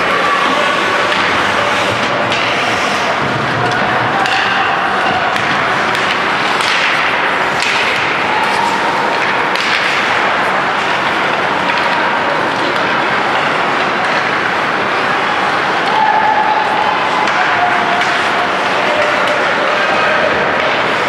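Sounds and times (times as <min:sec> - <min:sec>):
hockey sticks and puck clacking: 0:00.0 - 0:21.0
skates scraping ice: 0:00.0 - 0:21.0.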